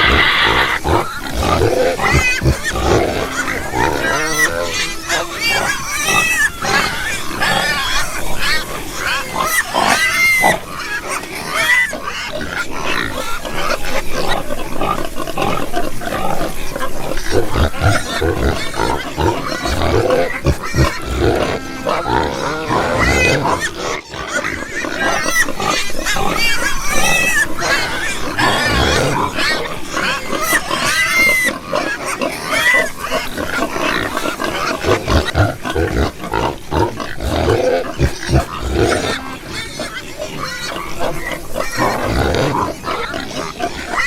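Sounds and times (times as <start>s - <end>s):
pigs grunting: 0.0s - 44.0s
pigs squealing: 0.0s - 44.0s.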